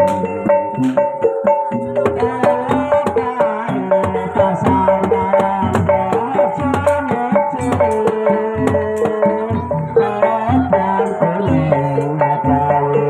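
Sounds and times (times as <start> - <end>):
hand drums beating: 0.0 - 13.0
pitched instruments playing melody: 0.0 - 13.0.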